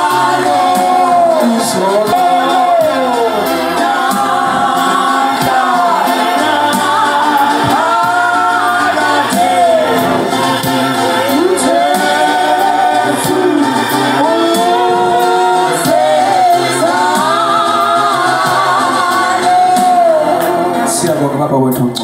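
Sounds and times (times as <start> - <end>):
group singing a hymn in harmony: 0.0 - 20.9.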